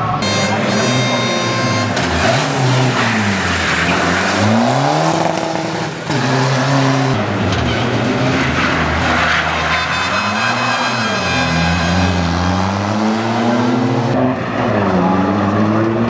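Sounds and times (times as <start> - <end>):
rally car engine passing: 0.0 - 16.0.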